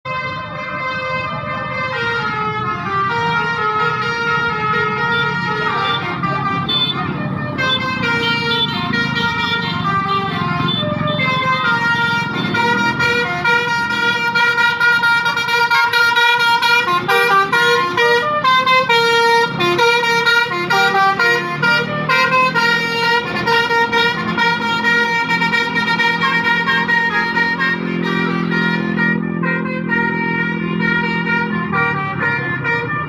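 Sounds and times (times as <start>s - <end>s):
bus engine rumble: 0.1s - 33.0s
musical air horns melody: 0.1s - 33.0s.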